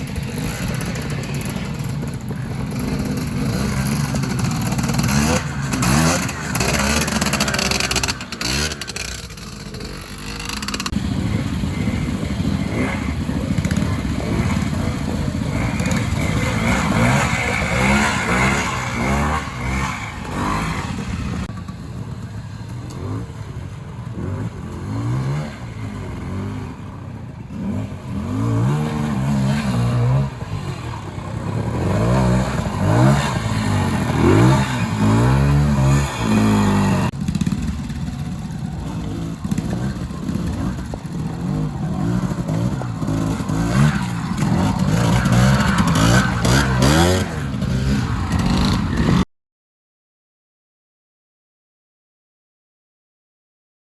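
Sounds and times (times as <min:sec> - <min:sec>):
motorcycle engine revving: 0:00.0 - 0:49.3.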